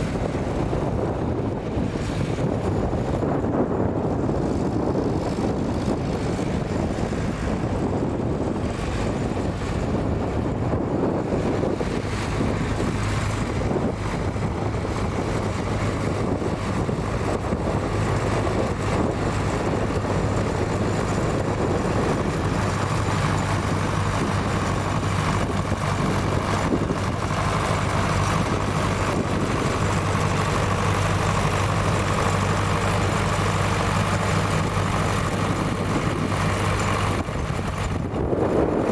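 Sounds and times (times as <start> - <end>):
rumbling wind noise: 0.0 - 38.9
tractor engine running: 0.0 - 38.9.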